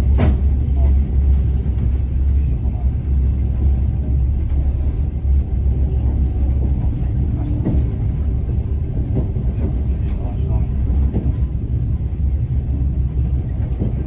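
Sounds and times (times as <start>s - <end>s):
train wheels clacking: 0.0s - 14.0s
train wheels rumbling on rails: 0.0s - 14.0s.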